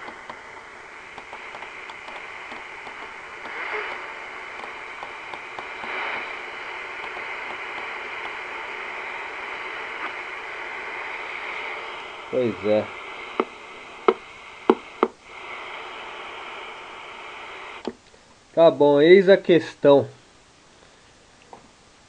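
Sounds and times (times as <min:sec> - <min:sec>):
radio static hiss: 0:00.0 - 0:21.2.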